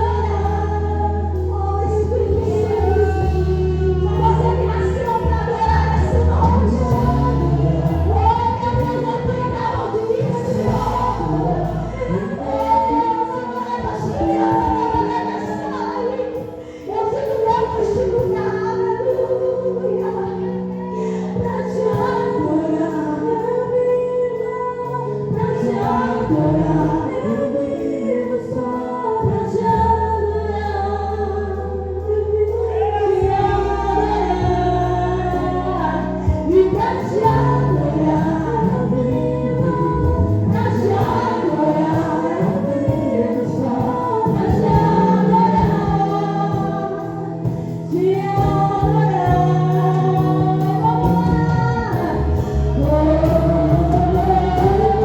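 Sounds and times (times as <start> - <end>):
voices singing gospel: 0.0 - 55.0.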